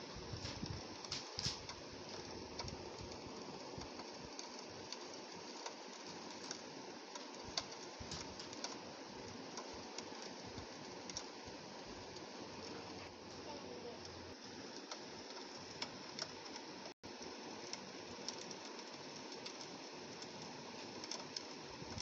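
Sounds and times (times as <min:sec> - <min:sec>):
rain pattering on a window: 0:00.0 - 0:22.0.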